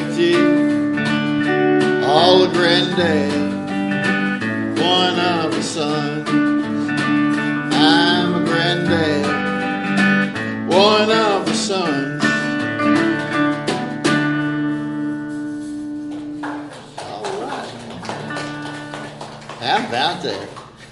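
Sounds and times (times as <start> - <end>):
acoustic country song: 0.0 - 20.9
strummed acoustic guitar: 0.0 - 20.9.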